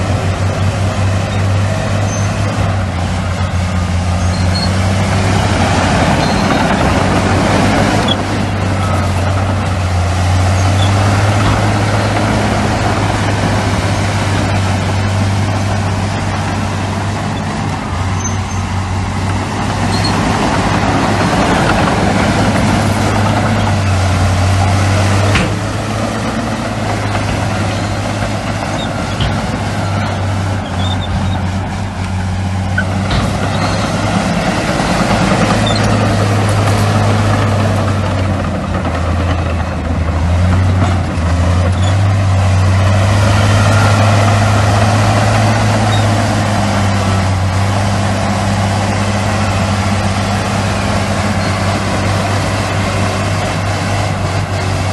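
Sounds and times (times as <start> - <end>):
heavy diesel machinery droning: 0.0 - 54.9.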